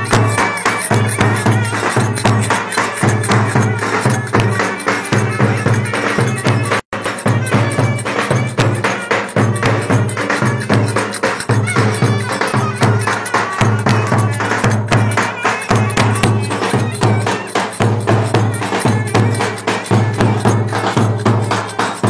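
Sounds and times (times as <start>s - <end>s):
clarinets playing folk melody: 0.0s - 22.0s
clicking percussion: 0.0s - 22.0s
heavy drum beat: 0.0s - 22.0s.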